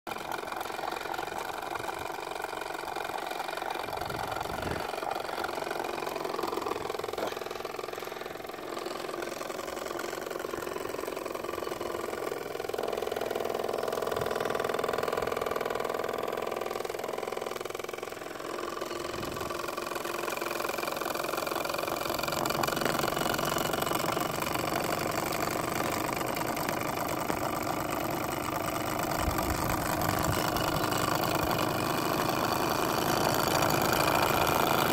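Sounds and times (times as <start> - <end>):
toy steam engine running: 0.1 - 34.9.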